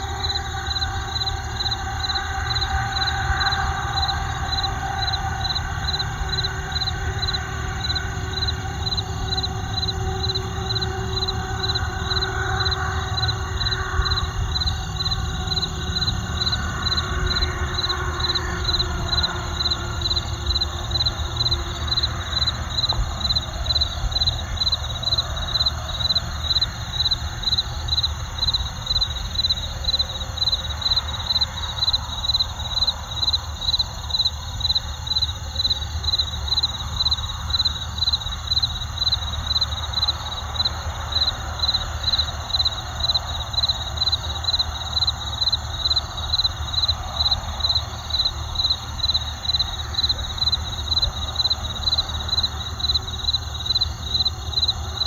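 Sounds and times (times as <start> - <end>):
crickets chirping: 0.0 - 55.0
high insect drone: 0.0 - 55.0
low road traffic rumble: 0.0 - 55.0.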